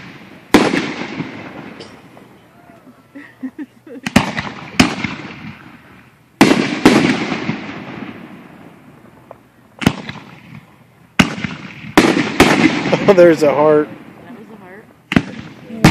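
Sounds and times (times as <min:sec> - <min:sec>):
fireworks bangs: 0:00.0 - 0:15.9
fireworks rumble: 0:00.0 - 0:15.9.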